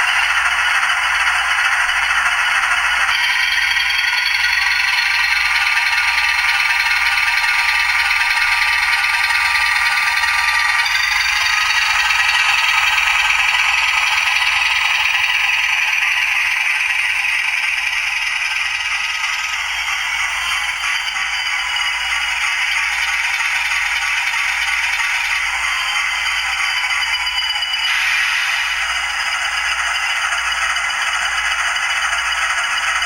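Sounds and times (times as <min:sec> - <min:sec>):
tinny model locomotive engine sound: 0:00.0 - 0:33.0.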